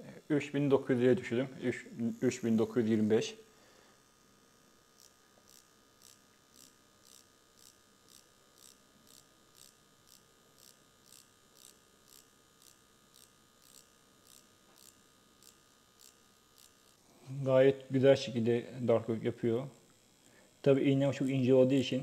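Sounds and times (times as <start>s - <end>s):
tattoo pen running: 0.0s - 22.0s.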